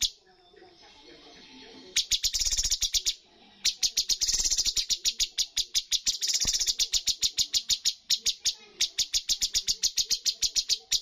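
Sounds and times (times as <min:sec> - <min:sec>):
bird singing staccato notes: 0:01.9 - 0:11.0.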